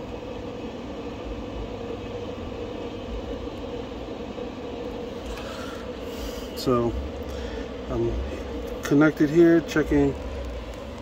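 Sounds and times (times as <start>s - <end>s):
cooling fan humming: 0.0s - 11.0s.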